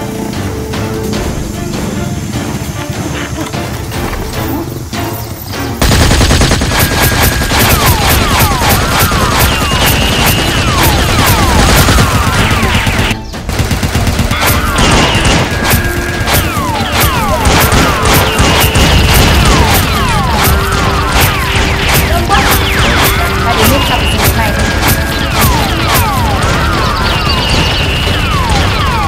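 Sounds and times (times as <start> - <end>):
action music with synth tones: 0.0 - 29.0
rapid gunfire: 5.3 - 29.0.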